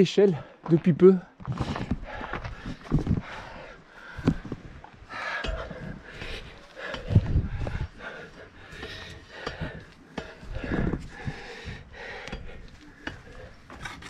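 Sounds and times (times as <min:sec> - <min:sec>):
heavy breathing: 0:01.4 - 0:14.0.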